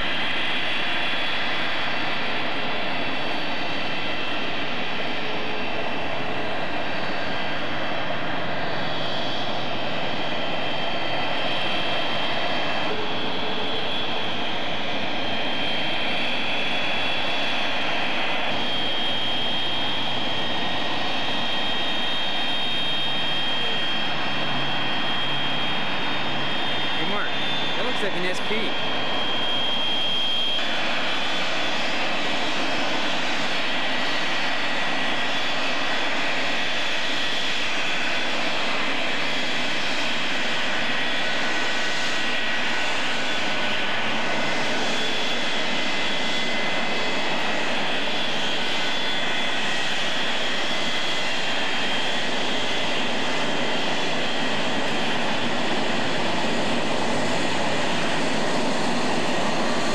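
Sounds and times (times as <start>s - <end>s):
jet engines at low power: 0.0s - 59.9s.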